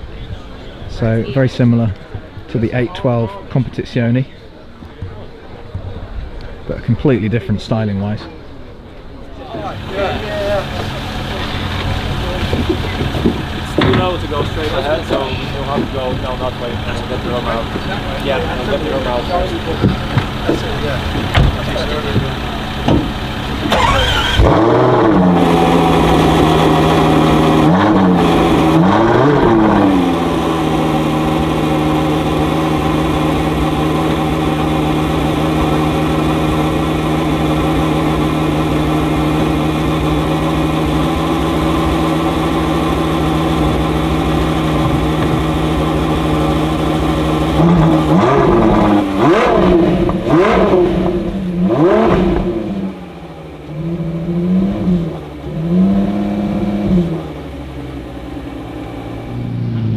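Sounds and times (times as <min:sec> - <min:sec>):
sports car engine revving: 0:09.6 - 0:59.9.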